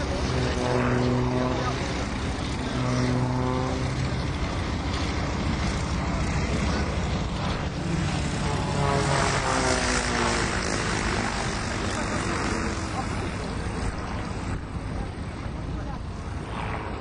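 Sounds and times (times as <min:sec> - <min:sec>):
propeller plane engine rasping: 0:00.0 - 0:17.0.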